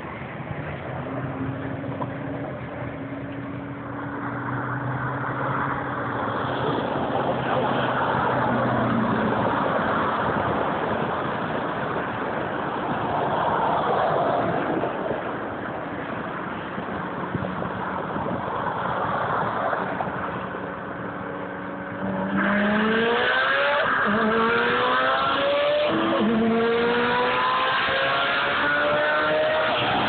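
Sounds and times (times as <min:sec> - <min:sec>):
car engines accelerating: 0:00.0 - 0:30.0
road noise: 0:00.0 - 0:30.0.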